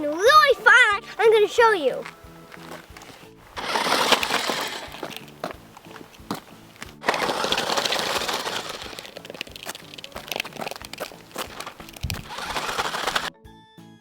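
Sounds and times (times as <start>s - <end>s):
quiet background music: 0.0s - 14.0s
crackling rustling noise: 2.0s - 13.3s.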